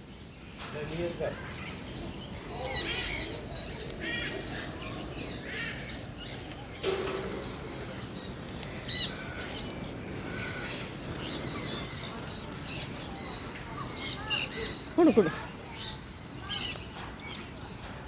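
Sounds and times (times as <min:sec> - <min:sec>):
many birds chirping: 0:00.0 - 0:18.0.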